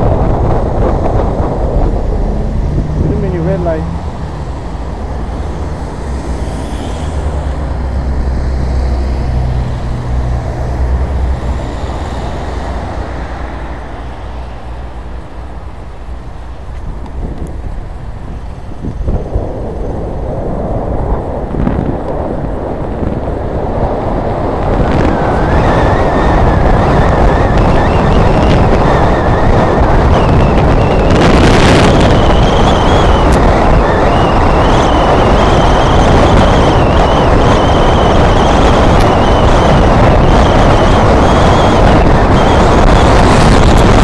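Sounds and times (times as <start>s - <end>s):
wind and road rush: 0.0s - 44.0s.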